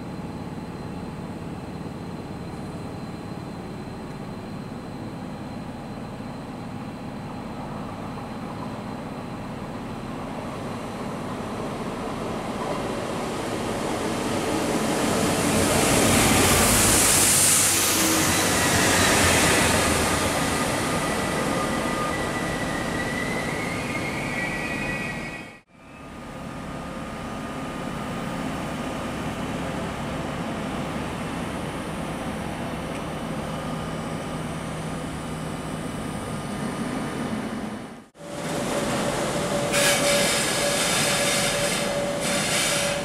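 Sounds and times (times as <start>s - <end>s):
train running past with hiss: 0.0s - 43.0s.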